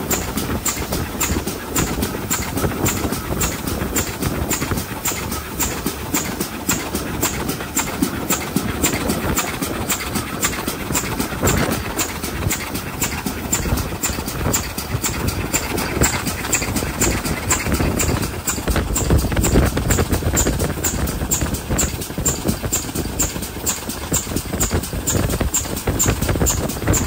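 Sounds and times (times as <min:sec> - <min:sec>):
steam locomotive exhaust beats: 0:00.0 - 0:27.0
train rumbling on rails: 0:00.0 - 0:27.0.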